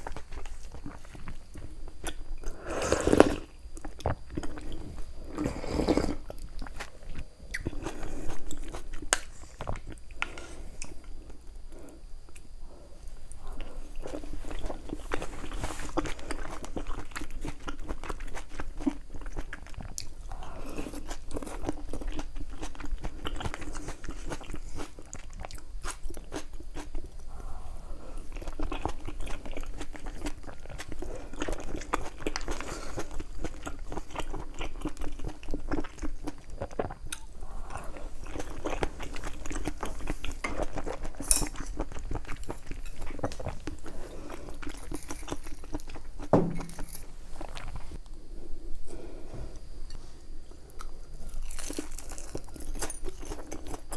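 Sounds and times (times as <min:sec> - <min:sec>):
person chewing crunchy food: 0:00.0 - 0:11.5, 0:13.2 - 0:48.1, 0:49.6 - 0:53.9.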